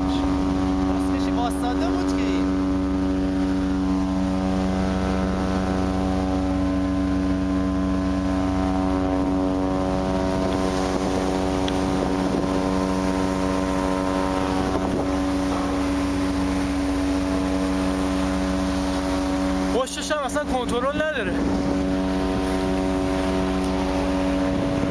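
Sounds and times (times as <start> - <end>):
ship engine droning: 0.0 - 24.9.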